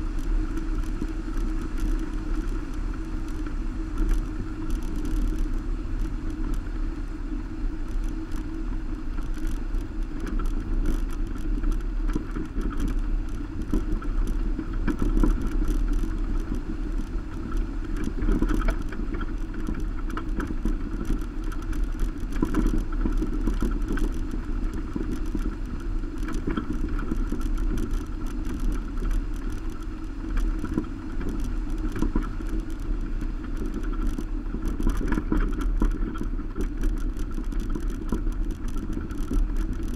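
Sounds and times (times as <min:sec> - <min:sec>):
road and wind rumble: 0:00.0 - 0:39.9
small ticks and rattles: 0:00.0 - 0:39.9.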